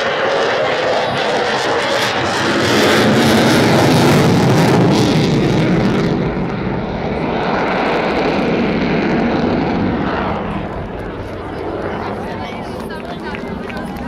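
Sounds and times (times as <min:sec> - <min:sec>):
jet engines flying past: 0:00.0 - 0:14.0.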